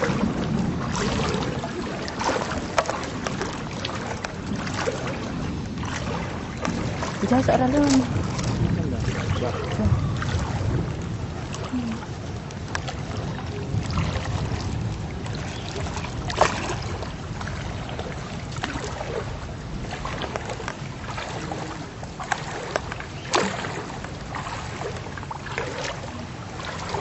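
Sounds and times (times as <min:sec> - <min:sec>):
sharp splashes or knocks: 0:00.0 - 0:12.0, 0:12.7 - 0:27.0
floodwater sloshing and splashing: 0:00.0 - 0:27.0
wind buffeting microphone: 0:00.0 - 0:27.0.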